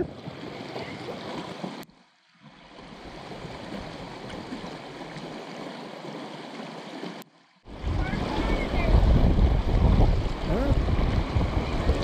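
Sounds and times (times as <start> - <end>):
creek rushing over stones: 0.0 - 12.0.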